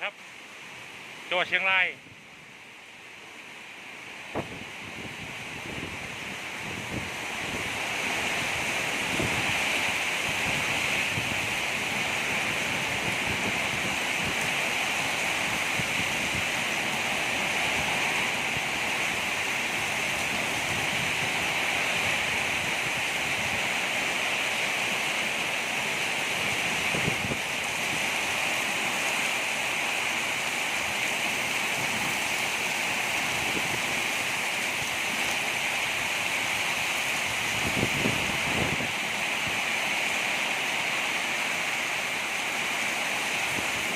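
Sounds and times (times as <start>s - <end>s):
heavy rain pouring: 0.0s - 43.9s
wind: 0.0s - 43.9s.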